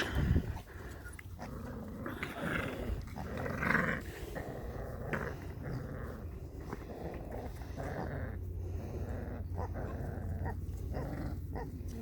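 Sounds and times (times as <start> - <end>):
puppies making small vocal noises: 0.0 - 12.0.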